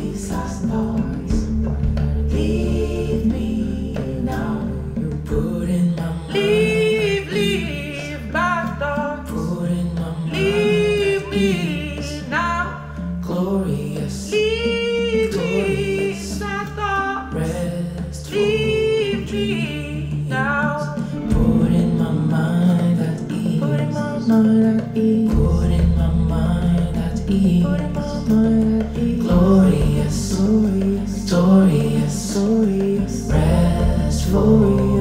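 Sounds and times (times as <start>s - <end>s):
steady low pulse: 0.0s - 16.4s, 21.1s - 35.0s
choir-like sung vocals: 0.0s - 35.0s.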